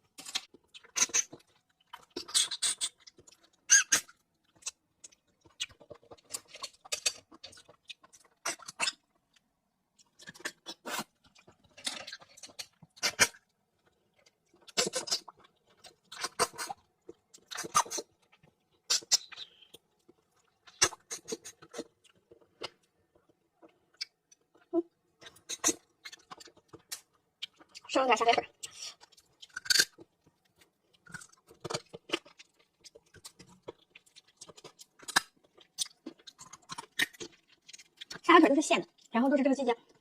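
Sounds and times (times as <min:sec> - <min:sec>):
chewing: 0:00.0 - 0:40.0.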